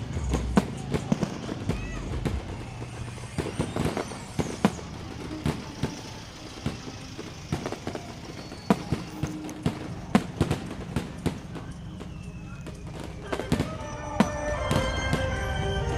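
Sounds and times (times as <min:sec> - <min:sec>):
fireworks bangs and pops: 0:00.0 - 0:15.9
fireworks crackling hiss: 0:00.0 - 0:15.9.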